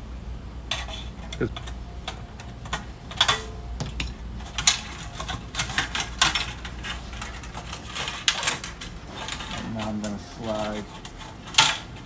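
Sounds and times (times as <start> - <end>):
screwdriver and screws clattering on metal: 0.7 - 12.0.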